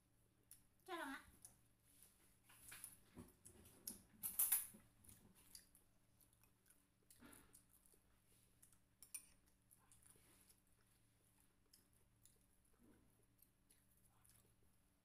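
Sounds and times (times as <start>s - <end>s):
faint chewing: 0.4s - 15.0s.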